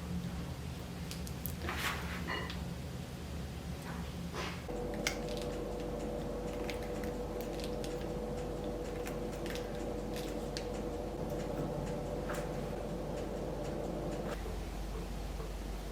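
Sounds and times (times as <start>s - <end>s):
mechanical hum with held tone: 0.0s - 15.9s.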